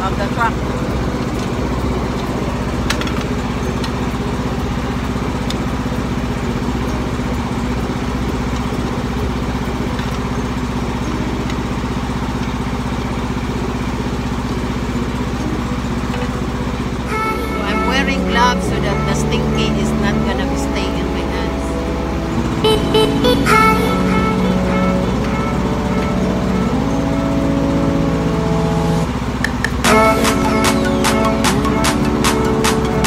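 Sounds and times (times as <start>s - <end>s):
generator droning: 0.0s - 33.0s.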